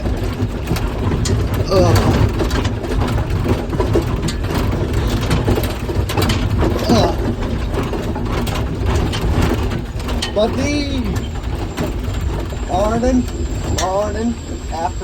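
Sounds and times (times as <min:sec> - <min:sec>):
cab rattling and clanking: 0:00.0 - 0:15.0
low engine drone: 0:00.0 - 0:15.0.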